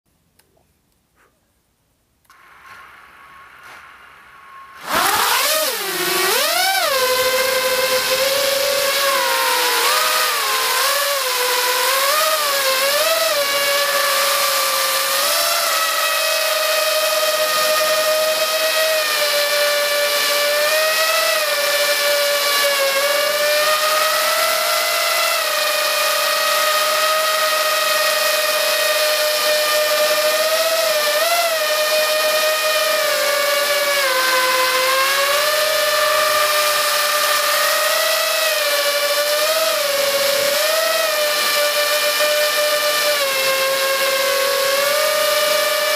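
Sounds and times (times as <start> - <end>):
quadcopter motors whining: 2.2 - 45.9.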